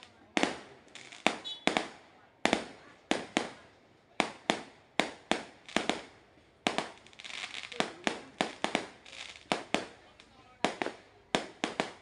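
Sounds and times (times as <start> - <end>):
crackling fireworks stars: 0.0 - 12.0
fireworks bangs: 0.0 - 12.0.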